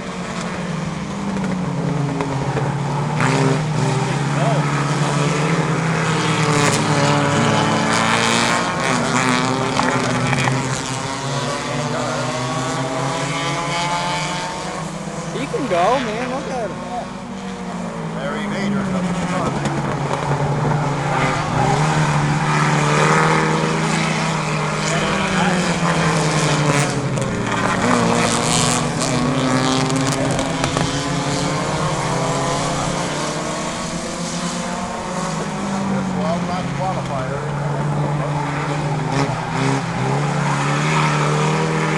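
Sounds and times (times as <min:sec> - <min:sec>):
race car engines: 0:00.0 - 0:41.9.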